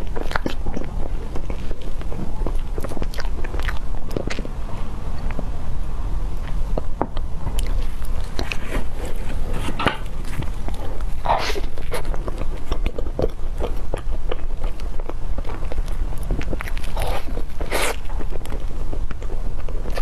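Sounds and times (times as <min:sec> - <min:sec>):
biting and chewing: 0:00.0 - 0:20.0.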